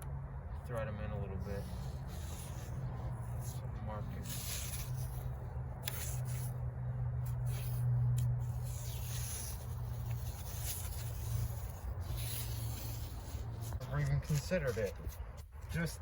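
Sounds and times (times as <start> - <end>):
rubbing and scraping handling noises: 0.6 - 16.0.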